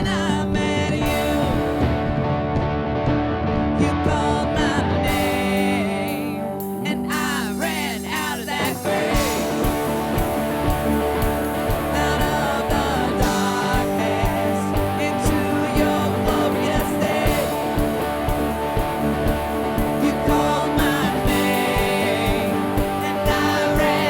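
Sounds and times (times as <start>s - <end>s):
person singing: 0.0s - 2.2s, 3.7s - 24.0s
steady drum beat: 0.0s - 3.1s, 4.0s - 24.0s
guitar: 0.0s - 24.0s
worship band playing: 0.0s - 24.0s.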